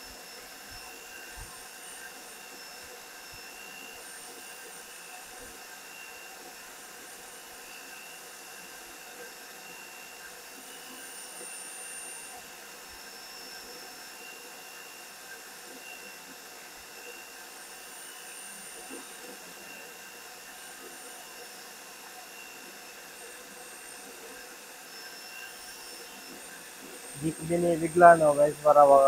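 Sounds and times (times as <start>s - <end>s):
boring tool motor whining: 0.0s - 29.0s.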